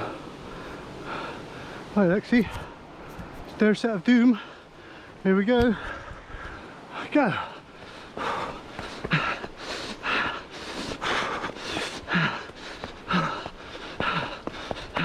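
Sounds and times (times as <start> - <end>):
man breathing hard: 0.0 - 2.8, 4.3 - 15.0.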